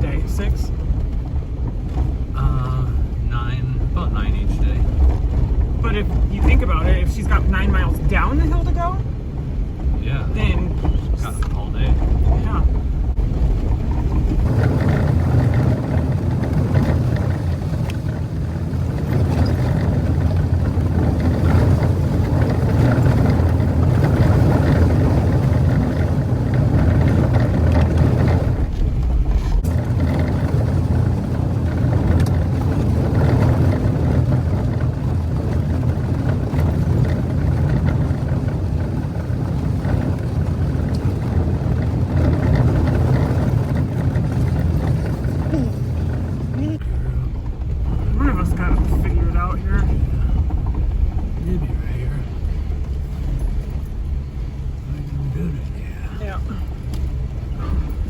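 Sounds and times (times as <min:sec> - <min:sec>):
car engine rumble: 0:00.0 - 0:58.0
tyre and road noise: 0:00.0 - 0:58.0.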